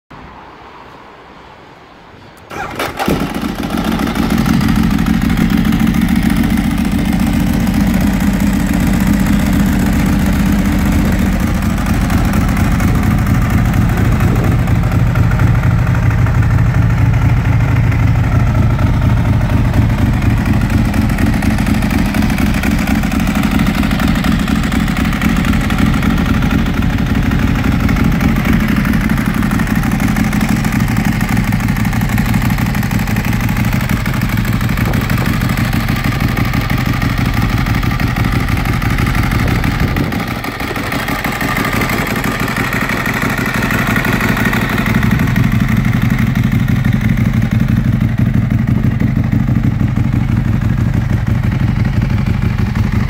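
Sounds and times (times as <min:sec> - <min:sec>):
motorcycle engine starting and idling: 0:02.4 - 0:53.0.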